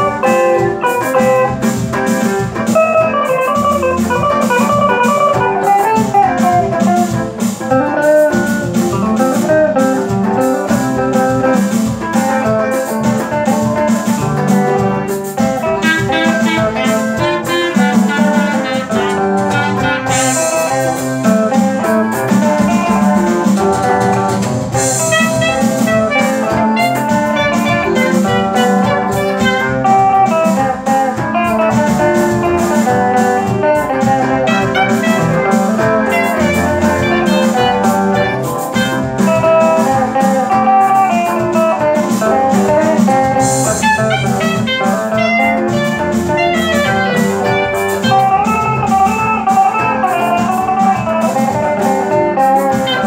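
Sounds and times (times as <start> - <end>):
clarinet melody: 0.0 - 53.0
electric guitar: 0.0 - 53.0
electronic keyboards: 0.0 - 53.0.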